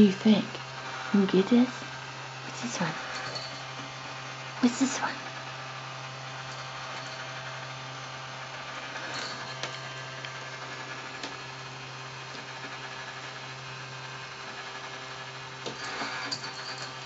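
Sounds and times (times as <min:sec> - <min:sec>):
small electric motor humming: 0:00.0 - 0:17.0.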